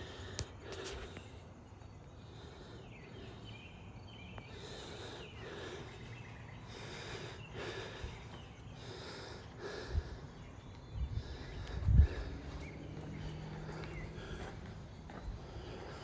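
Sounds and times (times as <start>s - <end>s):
man breathing heavily: 0.0s - 16.0s.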